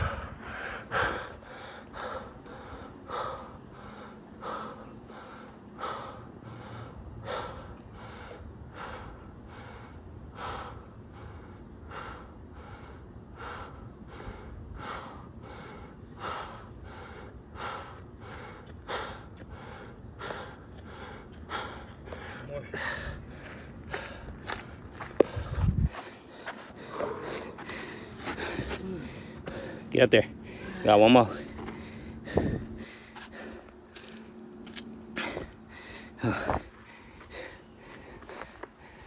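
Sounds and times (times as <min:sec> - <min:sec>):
person breathing hard: 0:00.0 - 0:34.1, 0:35.1 - 0:39.0.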